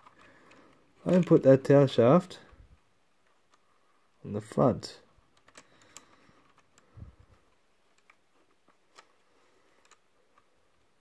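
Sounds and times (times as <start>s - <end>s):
faint plastic handling clicks: 0.0s - 1.7s, 2.3s - 4.0s, 5.0s - 11.0s.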